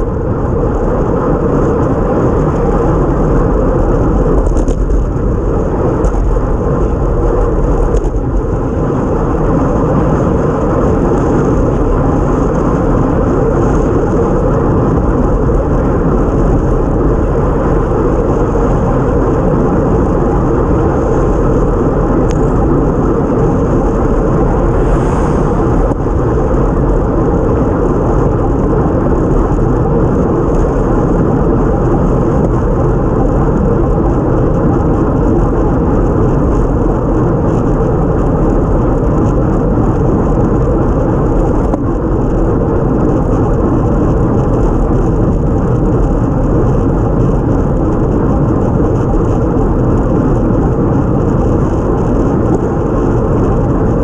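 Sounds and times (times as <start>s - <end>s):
wet road noise: 0.0s - 54.0s
wind rush: 0.0s - 54.0s.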